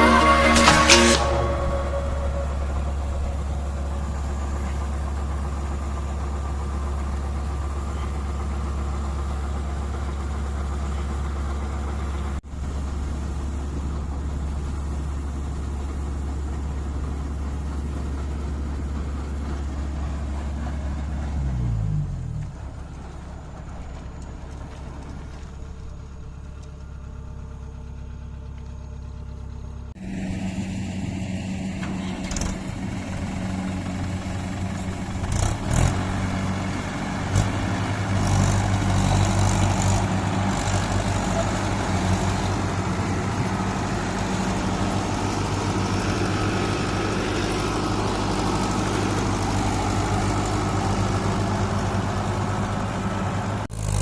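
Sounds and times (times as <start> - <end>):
combine harvester engine humming: 0.0 - 54.0.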